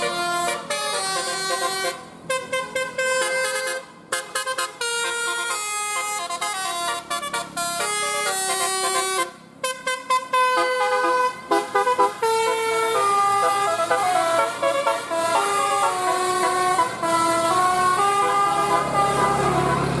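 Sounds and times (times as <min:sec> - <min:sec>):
multi-tone bus air horn tune: 0:00.0 - 0:20.0.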